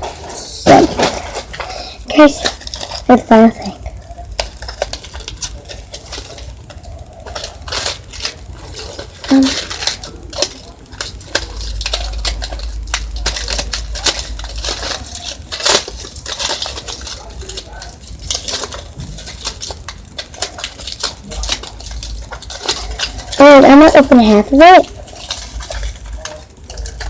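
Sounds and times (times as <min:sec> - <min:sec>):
package crinkling and tearing: 0:00.0 - 0:27.0.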